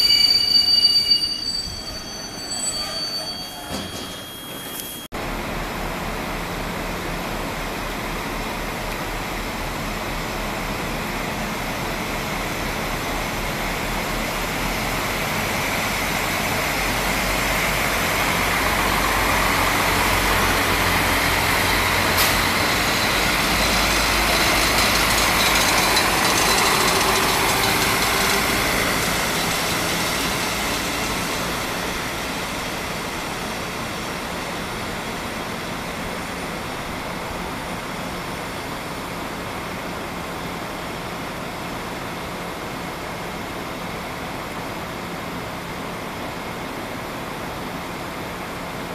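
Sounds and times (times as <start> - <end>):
wheel on rail noise: 0.0 - 40.8
railcar engine hum: 0.0 - 48.9.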